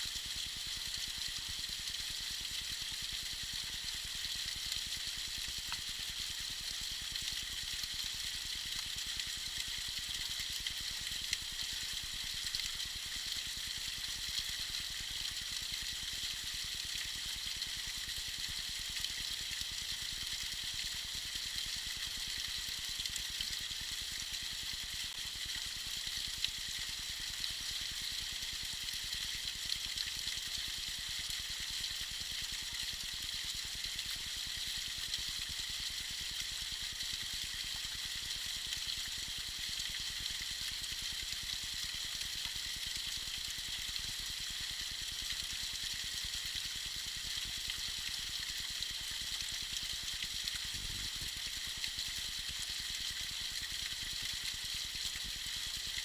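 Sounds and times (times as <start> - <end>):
small waterfall trickling: 0.0 - 56.0
water drips and splashes: 0.0 - 56.0.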